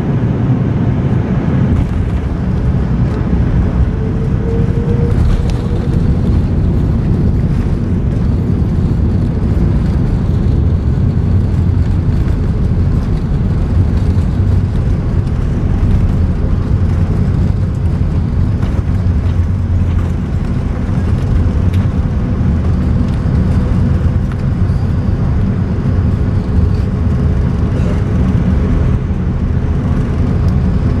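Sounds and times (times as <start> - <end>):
jet engines idling rumble: 0.0 - 31.0.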